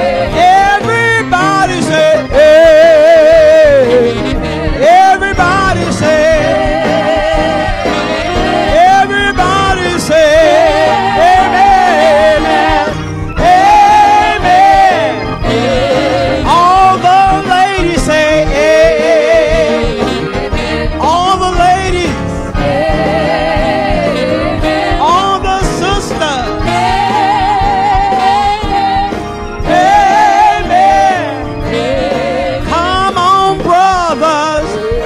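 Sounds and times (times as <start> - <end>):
instrumental accompaniment: 0.0 - 35.0.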